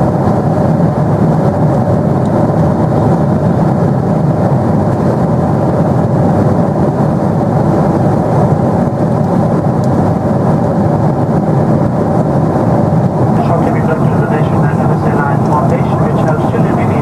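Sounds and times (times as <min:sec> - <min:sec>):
air rushing along fuselage: 0:00.0 - 0:17.0
airplane engines in cruise: 0:00.0 - 0:17.0.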